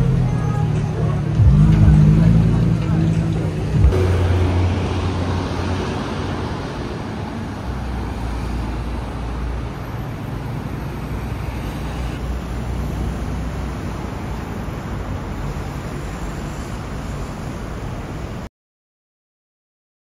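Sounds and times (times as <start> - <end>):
car engine: 0.0 - 18.4
road noise of passing cars: 0.0 - 18.5.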